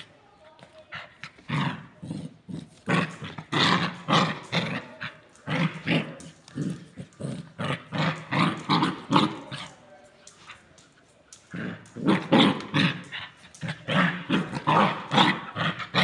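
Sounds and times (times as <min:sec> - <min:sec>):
puppy growling: 0:01.0 - 0:09.8, 0:11.3 - 0:16.0.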